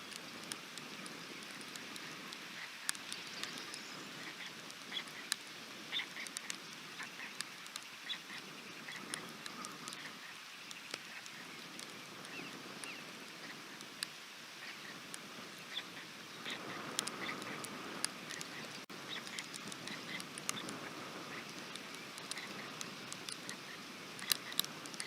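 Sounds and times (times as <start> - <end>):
sharp drips of rain drops: 0.0 - 25.0
steady rain: 0.0 - 25.0.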